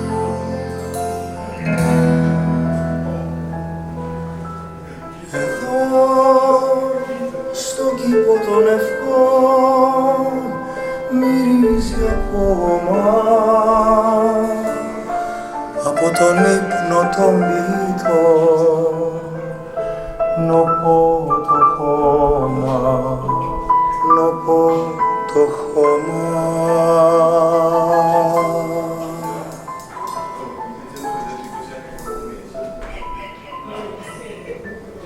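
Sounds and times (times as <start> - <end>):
instrumental accompaniment: 0.0 - 35.0.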